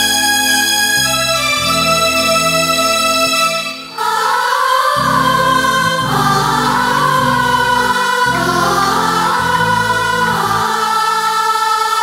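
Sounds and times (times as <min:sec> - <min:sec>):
choir-like melody: 0:00.0 - 0:12.0.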